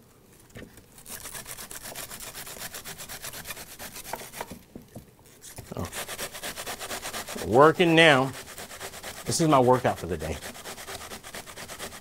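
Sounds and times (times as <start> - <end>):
cabbage shredded on metal grater: 1.0 - 4.4, 5.7 - 12.0.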